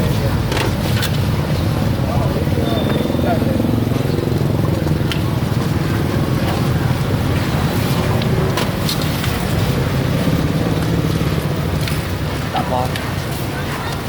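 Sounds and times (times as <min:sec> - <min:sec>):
engine running with low rumble: 0:00.0 - 0:14.0.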